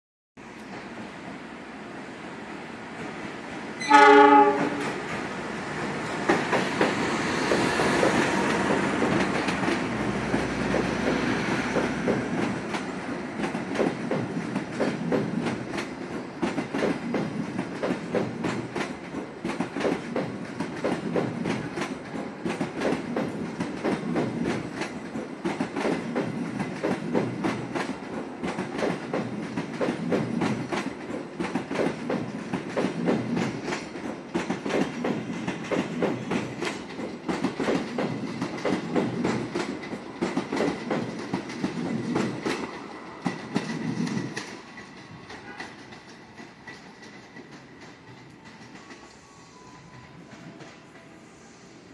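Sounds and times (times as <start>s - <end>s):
train wheels clacking over rail joints: 3.9s - 49.1s.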